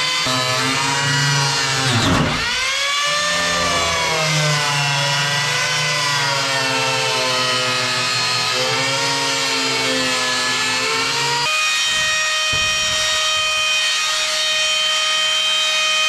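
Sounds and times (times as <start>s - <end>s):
power tool cutting whine: 0.0s - 16.0s.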